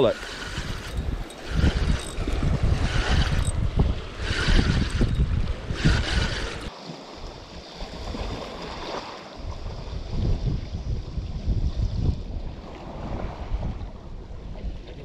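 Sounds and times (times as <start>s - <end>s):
wind buffeting microphone: 0.0s - 6.7s, 7.3s - 15.0s.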